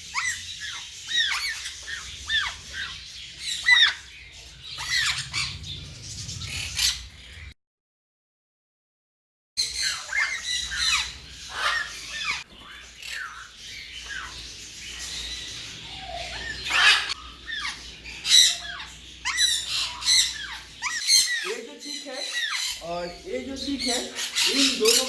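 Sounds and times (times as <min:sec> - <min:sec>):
parrots squawking and whistling: 0:00.0 - 0:07.5, 0:09.6 - 0:25.0.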